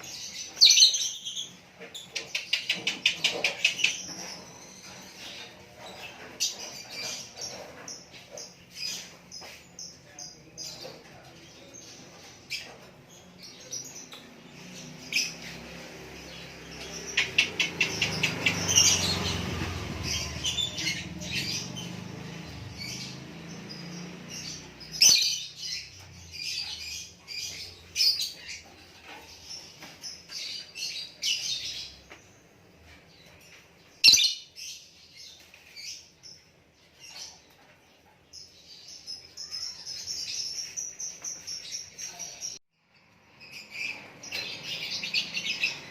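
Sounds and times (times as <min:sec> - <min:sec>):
small songbird chirping: 0:00.0 - 0:32.6, 0:33.2 - 0:45.9.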